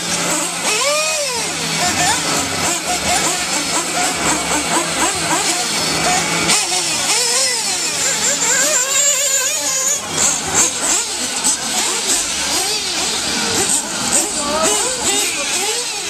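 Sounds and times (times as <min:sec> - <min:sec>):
rc buggy engines whining: 0:00.0 - 0:16.0.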